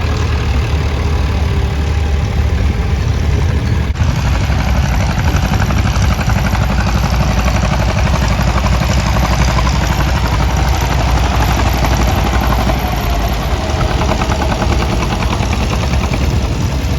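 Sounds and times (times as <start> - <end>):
tractor engines running: 0.0 - 16.9.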